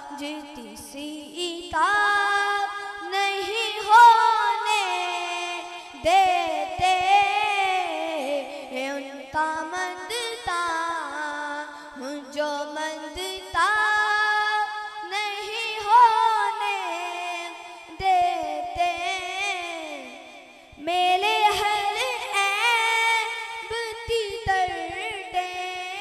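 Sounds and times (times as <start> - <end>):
boy singing into a microphone: 0.0 - 26.0.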